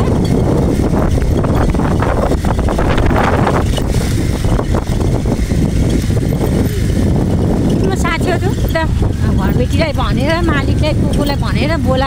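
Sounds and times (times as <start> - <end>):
vehicle engine and road rumble: 0.0 - 12.0
wind buffeting microphone: 0.0 - 12.0.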